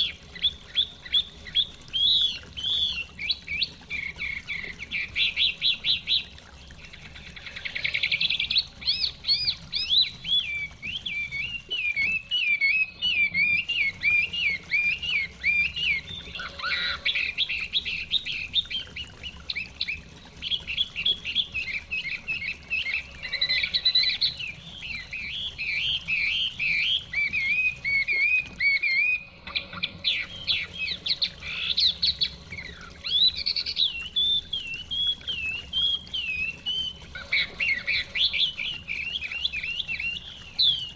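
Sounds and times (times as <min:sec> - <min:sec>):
bird warbling song: 0:00.0 - 0:40.9.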